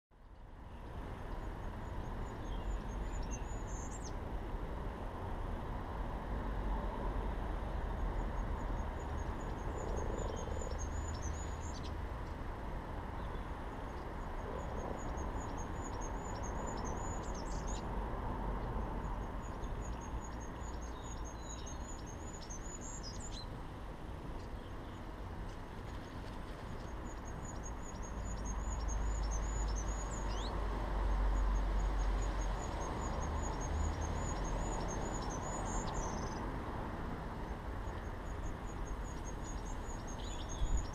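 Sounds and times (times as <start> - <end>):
songbird singing: 0.1 - 5.6, 6.6 - 12.4, 13.0 - 40.9.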